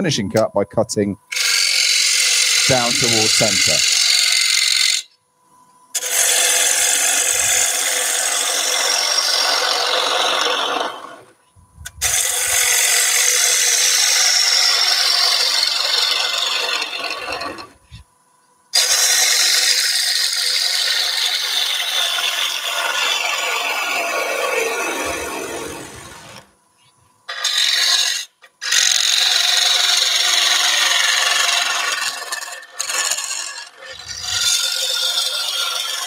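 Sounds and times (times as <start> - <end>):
lathe gouge cutting wood: 1.3 - 5.0, 6.0 - 11.3, 12.0 - 17.7, 18.8 - 26.5, 27.3 - 36.0.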